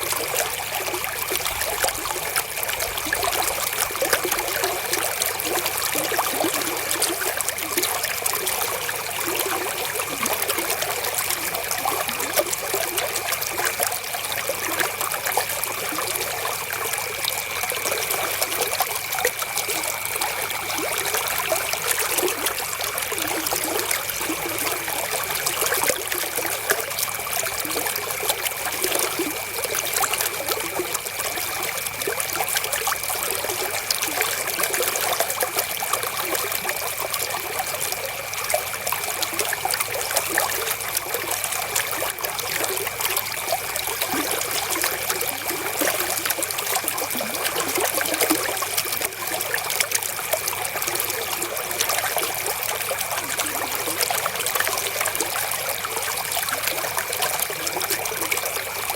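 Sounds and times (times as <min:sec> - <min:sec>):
river water trickling: 0:00.0 - 0:58.9.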